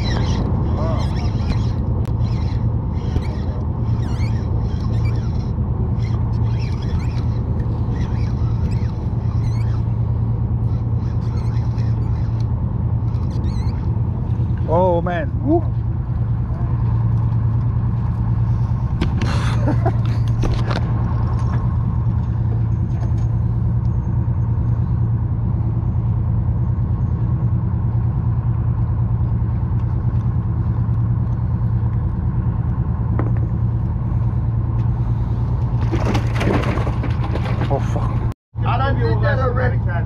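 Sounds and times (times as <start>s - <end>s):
boat engine humming: 0.0s - 40.0s.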